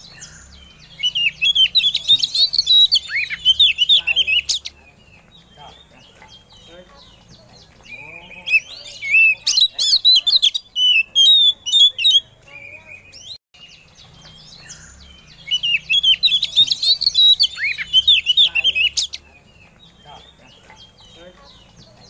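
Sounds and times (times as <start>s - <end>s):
bird singing high chirps: 0.0s - 22.0s.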